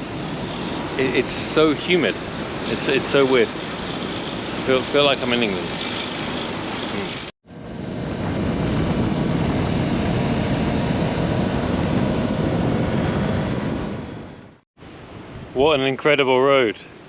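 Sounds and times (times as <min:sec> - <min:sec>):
motorcycle road noise: 0:00.0 - 0:14.6
wind rush: 0:00.0 - 0:17.0.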